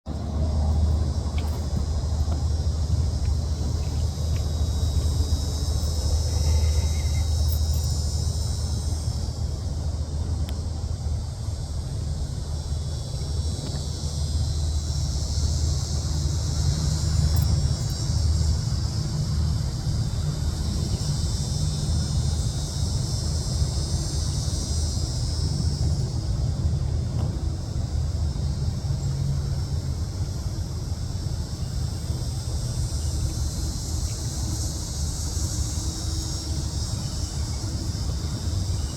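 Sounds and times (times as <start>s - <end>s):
continuous low rumble: 0.1s - 38.9s
insect chorus: 0.1s - 38.9s
steady high-pitched hiss: 0.1s - 38.9s.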